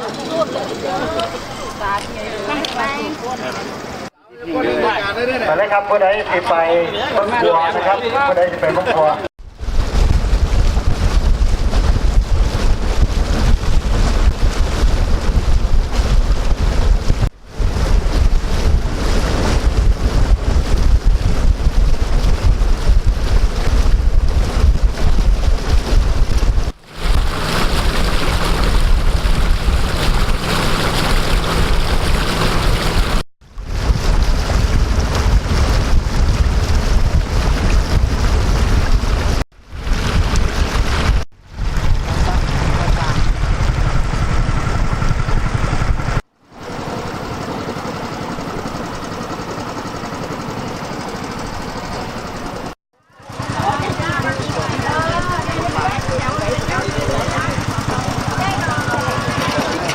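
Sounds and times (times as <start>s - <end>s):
boat motor running: 4.8s - 59.9s
wind buffeting microphone: 9.4s - 50.4s, 51.2s - 59.5s.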